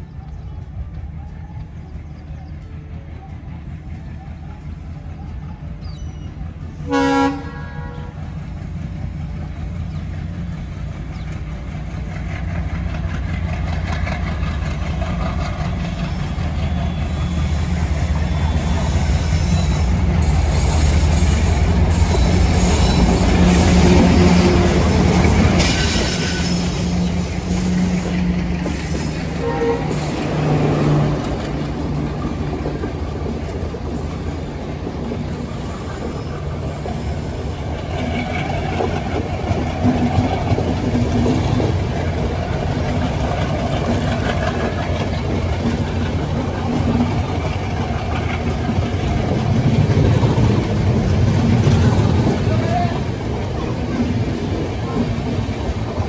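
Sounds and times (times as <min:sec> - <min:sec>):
diesel locomotive engines: 0:00.0 - 0:56.0
train coaches rumbling on rails: 0:00.0 - 0:56.0.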